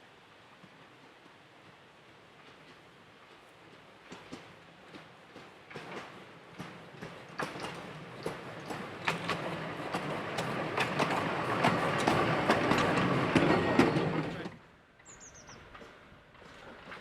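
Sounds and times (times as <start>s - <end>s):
train rumble: 0.2s - 17.0s
train wheels clicking over rail joints: 2.4s - 17.0s.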